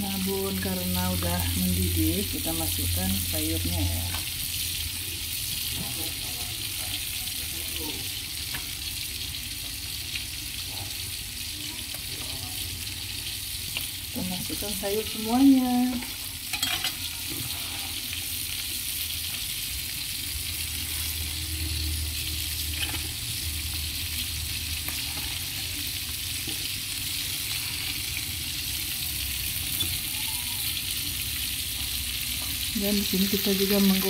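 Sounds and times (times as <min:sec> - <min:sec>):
fish sizzling in hot oil: 0:00.0 - 0:34.0.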